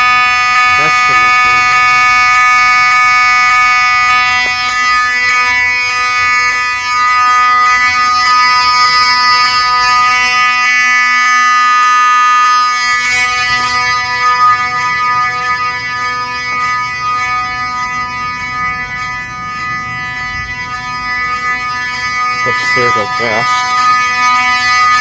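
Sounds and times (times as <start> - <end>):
fire alarm horn: 0.0 - 25.0.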